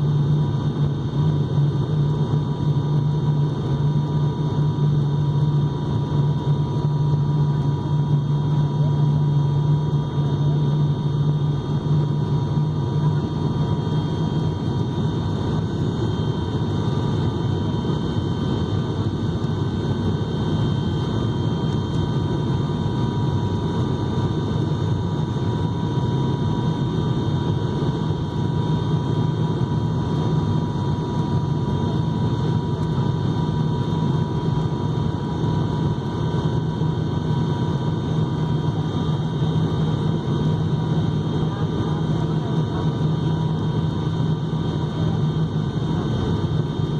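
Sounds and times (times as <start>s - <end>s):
airliner cabin drone: 0.0s - 46.9s
faint steady whining tones: 0.0s - 46.9s.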